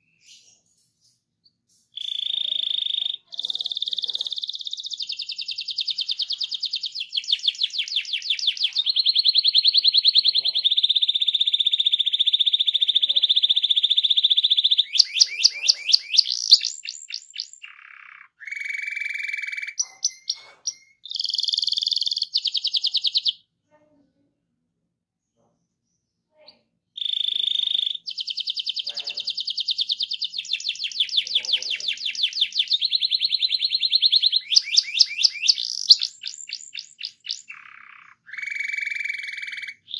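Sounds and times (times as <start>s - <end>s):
canary singing trills: 1.4s - 23.5s, 26.4s - 39.9s.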